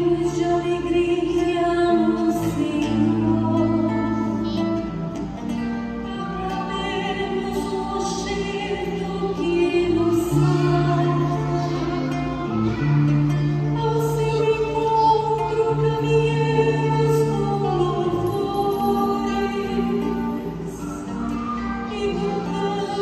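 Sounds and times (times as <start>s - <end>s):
woman singing a psalm: 0.0s - 4.4s, 6.0s - 12.5s, 13.6s - 21.2s, 21.8s - 23.0s.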